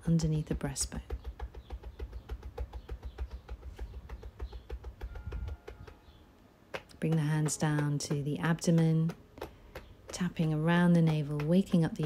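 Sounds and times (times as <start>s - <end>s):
hands tapping on chest: 0.1s - 12.0s.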